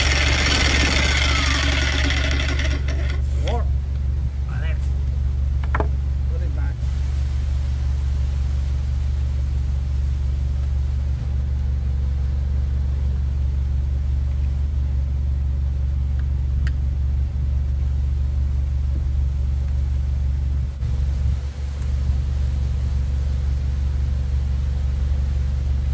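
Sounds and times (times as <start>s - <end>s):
low machine hum: 0.0s - 25.9s.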